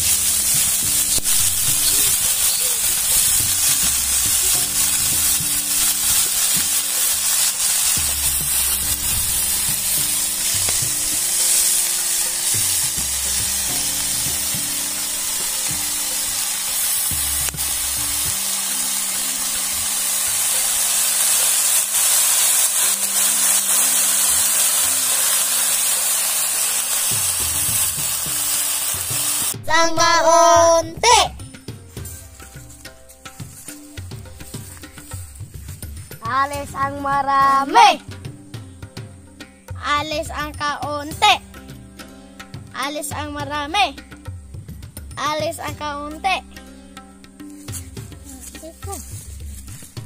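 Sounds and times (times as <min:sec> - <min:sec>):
greens sizzling in a wok: 0:00.0 - 0:50.0.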